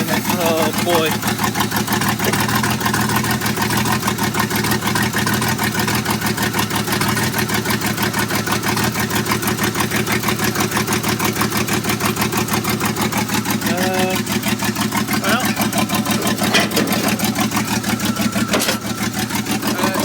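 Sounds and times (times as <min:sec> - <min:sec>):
pickup engine idling rough: 0:00.0 - 0:20.0.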